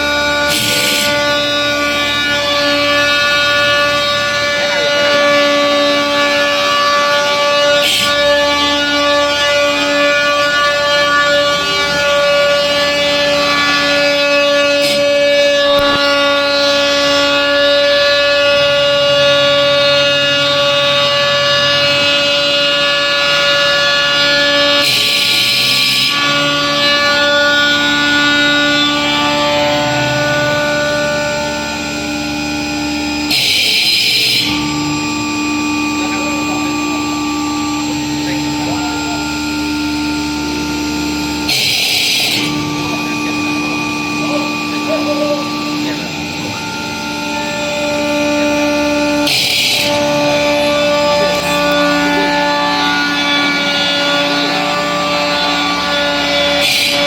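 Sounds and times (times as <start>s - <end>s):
stone-cutting machine whine: 0.0s - 57.0s.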